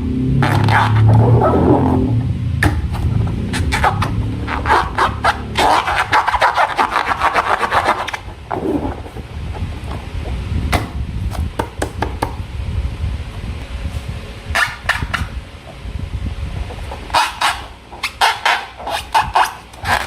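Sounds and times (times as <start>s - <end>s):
low rumble: 0.0s - 11.6s, 12.4s - 14.6s, 15.2s - 18.0s.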